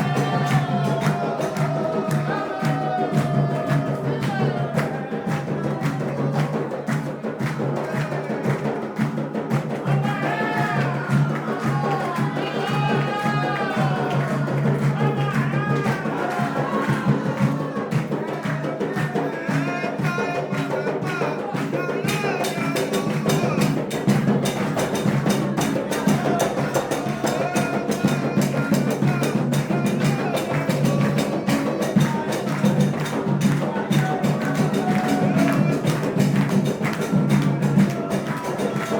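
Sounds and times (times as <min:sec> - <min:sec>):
hand drums beaten fast: 0:00.0 - 0:38.9
voices singing: 0:00.0 - 0:38.9.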